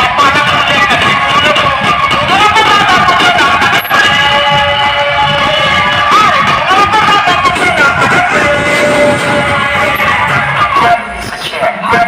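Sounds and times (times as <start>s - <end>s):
loud music over sound system: 0.0s - 12.0s.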